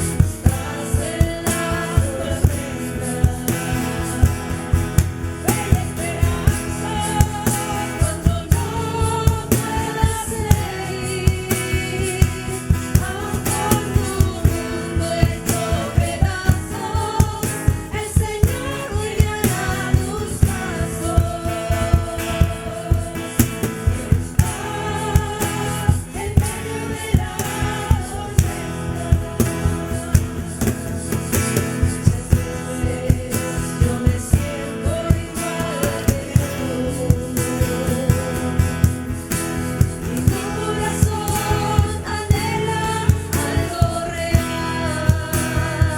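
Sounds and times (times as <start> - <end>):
worship song with band: 0.0 - 45.9.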